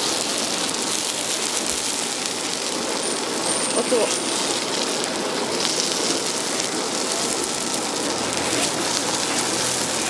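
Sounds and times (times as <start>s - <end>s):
batter sizzling and crackling: 0.0s - 10.0s.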